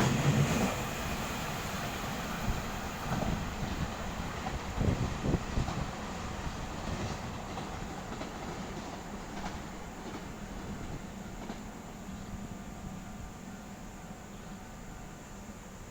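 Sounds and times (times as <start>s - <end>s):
train wheels rumbling on track: 0.0s - 15.9s.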